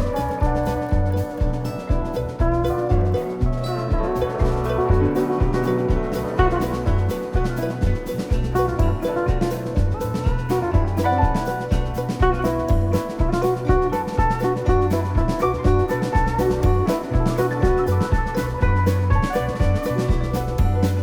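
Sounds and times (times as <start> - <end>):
drum kit beat: 0.0 - 21.0
instrumental melody: 0.0 - 21.0.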